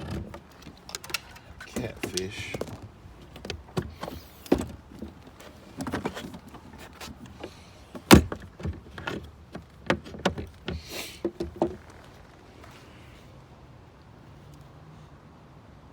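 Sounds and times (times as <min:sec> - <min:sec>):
handling knocks and thumps: 0:00.0 - 0:12.8.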